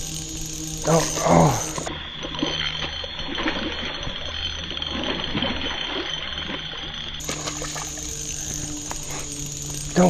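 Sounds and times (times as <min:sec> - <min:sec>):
fishing reel clicking: 0:00.0 - 0:10.0.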